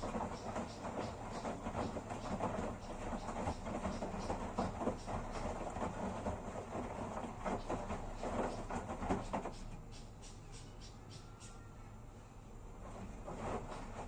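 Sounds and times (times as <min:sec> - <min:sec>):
washing machine churning: 0:00.0 - 0:14.0.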